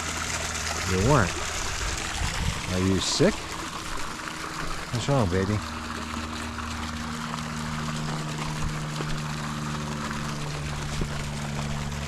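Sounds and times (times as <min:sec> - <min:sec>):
mechanical hum: 0:00.0 - 0:12.0
water trickling and bubbling: 0:00.0 - 0:12.0.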